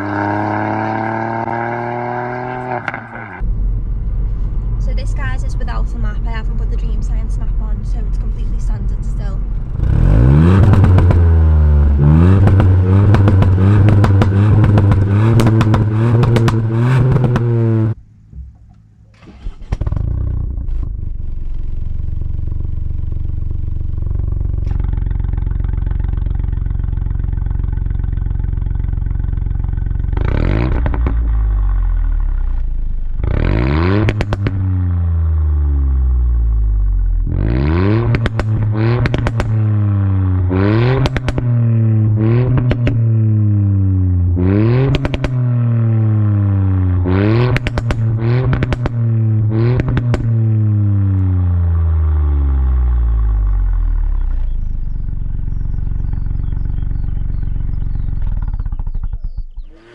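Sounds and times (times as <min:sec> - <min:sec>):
car engine revving with pops: 0:00.0 - 0:59.9
car engine idling: 0:02.4 - 0:59.9.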